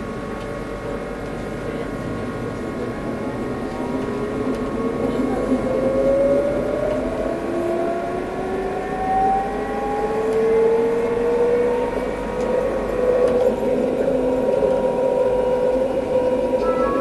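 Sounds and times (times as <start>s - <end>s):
wheels rumbling on rails: 0.0s - 17.0s
tram traction motors whining: 2.2s - 17.0s.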